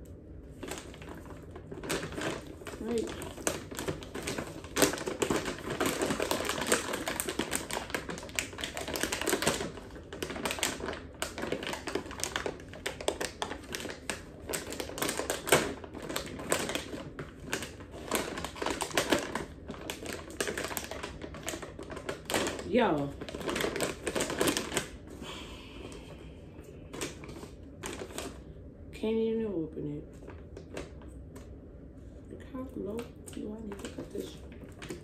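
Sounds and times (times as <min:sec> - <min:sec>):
plastic bag crinkling: 0:00.0 - 0:28.5, 0:30.0 - 0:31.6, 0:32.7 - 0:35.0.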